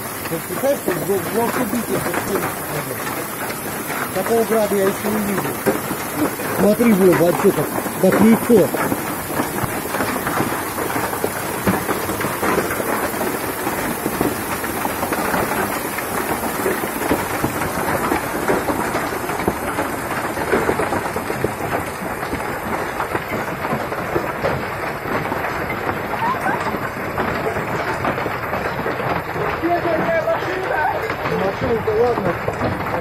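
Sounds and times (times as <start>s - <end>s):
heavy rain and hail: 0.0s - 33.0s.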